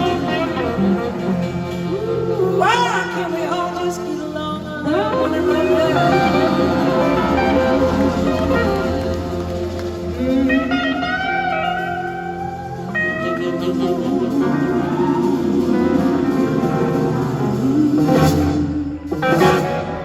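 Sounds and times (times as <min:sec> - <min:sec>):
band playing blues-soul instrumental: 0:00.0 - 0:20.0
electric slide guitar: 0:00.0 - 0:20.0.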